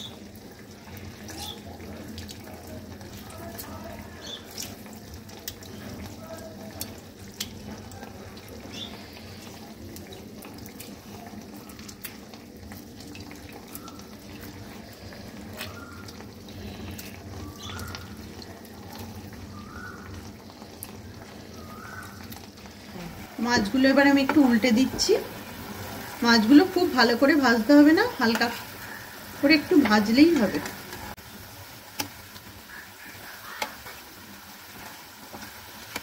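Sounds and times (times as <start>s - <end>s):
curry sizzling with pops: 0.0s - 36.0s.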